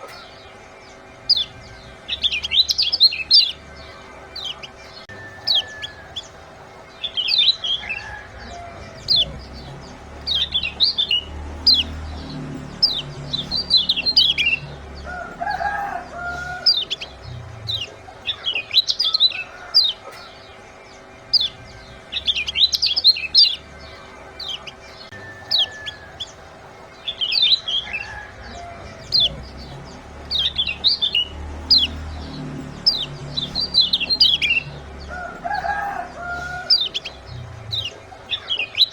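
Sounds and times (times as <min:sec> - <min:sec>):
bird chirp calls: 0:00.0 - 0:38.9.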